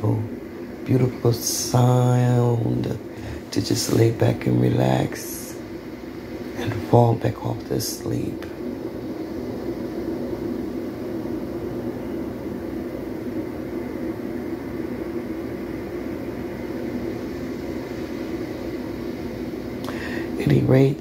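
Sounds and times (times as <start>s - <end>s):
ocean waves through tv speakers: 0.0s - 21.0s.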